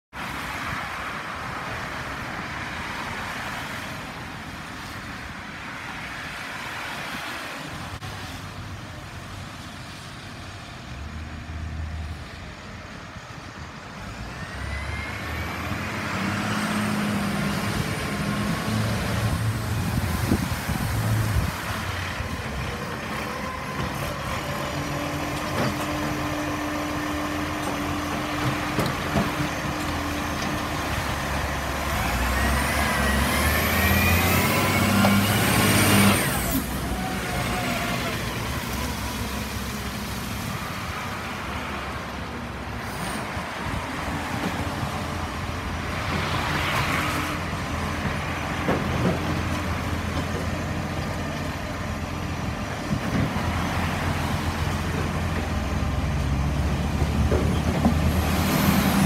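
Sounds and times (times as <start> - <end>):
tyre noise on wet road: 0.2 - 59.0
garbage truck diesel engine: 7.9 - 59.0.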